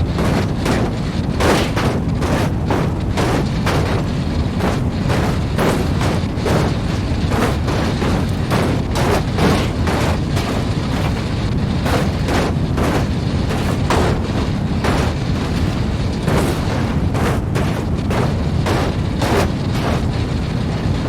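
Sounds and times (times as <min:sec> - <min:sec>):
fidget spinner swishes: 0:00.0 - 0:20.2
fidget spinner rumbling: 0:00.0 - 0:21.0.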